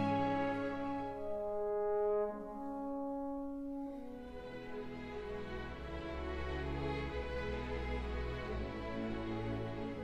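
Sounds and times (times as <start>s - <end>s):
slow sad orchestral music: 0.0s - 10.0s.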